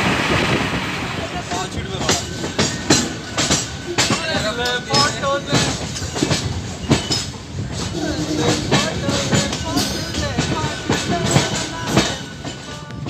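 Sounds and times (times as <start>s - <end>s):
train wheels clacking on rail joints: 0.0s - 13.0s
faint passengers' voices: 0.6s - 13.0s.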